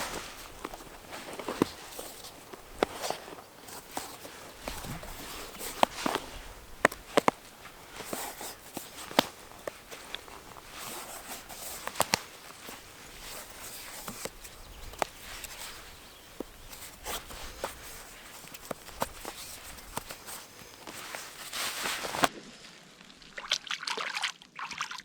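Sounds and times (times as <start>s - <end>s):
footsteps on twiggy ground: 0.0s - 23.4s
faint outdoor hiss: 0.0s - 24.6s.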